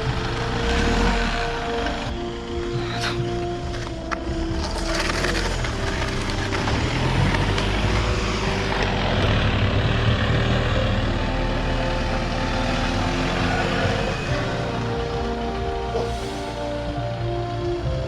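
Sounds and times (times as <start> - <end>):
background music: 0.0 - 18.0
van engine running loudly: 0.0 - 18.0.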